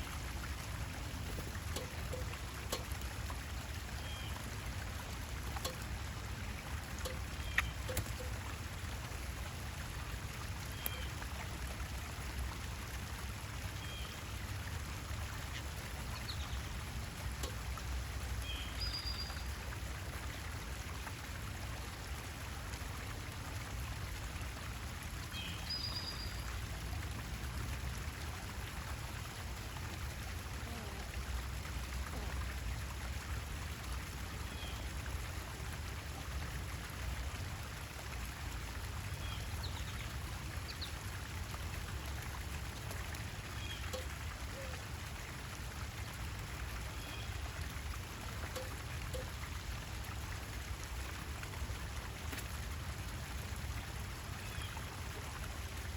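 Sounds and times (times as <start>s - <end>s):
trickling running water: 0.0s - 55.9s.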